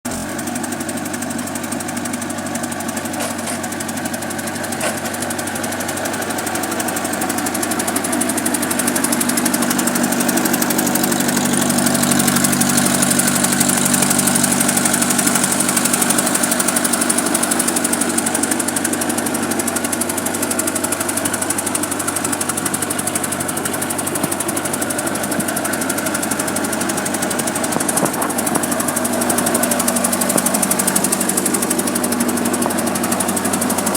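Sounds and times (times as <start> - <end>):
loader engine running: 0.0 - 33.9.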